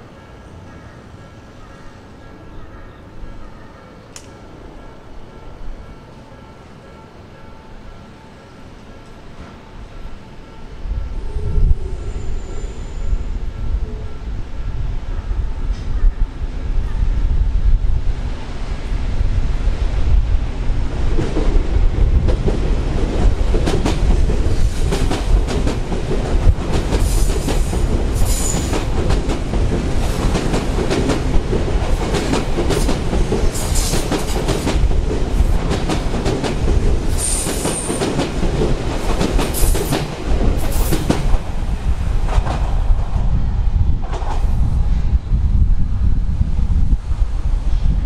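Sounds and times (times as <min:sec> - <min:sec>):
electric train rumbling past: 0:00.0 - 0:48.0.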